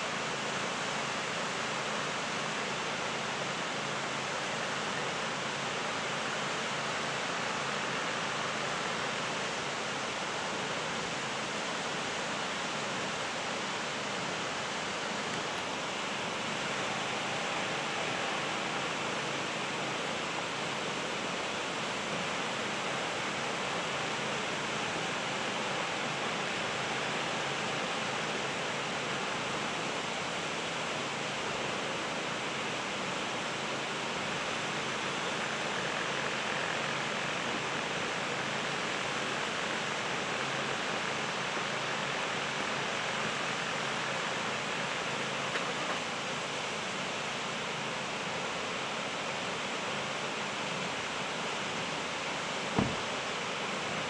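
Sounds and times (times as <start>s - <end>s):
waterfall hissing: 0.0s - 54.0s.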